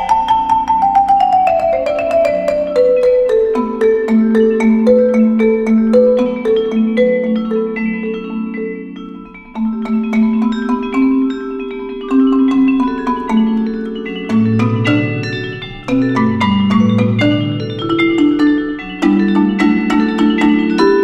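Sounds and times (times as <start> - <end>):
vibraphone and marimba duet: 0.0 - 21.0.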